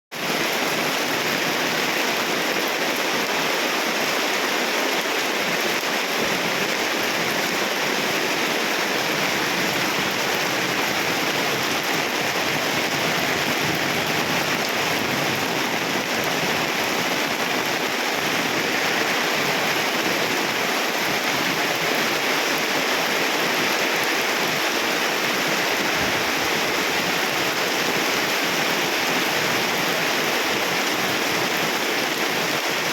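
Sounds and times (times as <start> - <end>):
rain falling steadily: 0.1 - 32.9.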